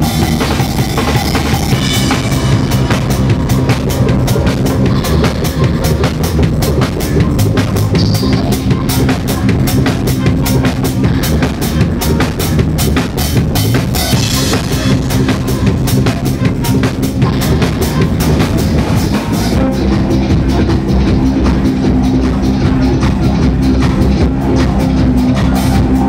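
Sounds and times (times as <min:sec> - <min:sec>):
drum kit beat: 0:00.0 - 0:26.0
live band playing: 0:00.0 - 0:26.0
sustained bass notes: 0:00.0 - 0:26.0.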